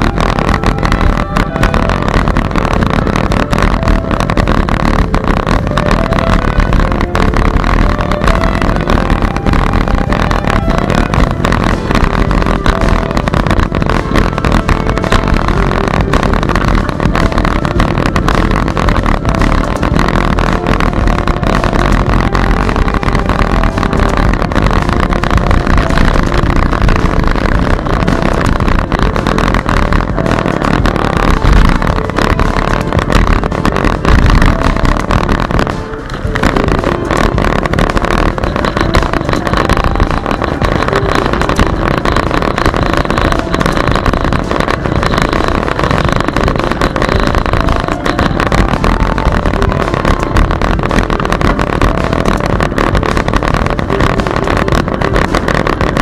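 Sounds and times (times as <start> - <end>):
faint background music: 0.0 - 56.0
wind and road noise rushing: 0.0 - 56.0.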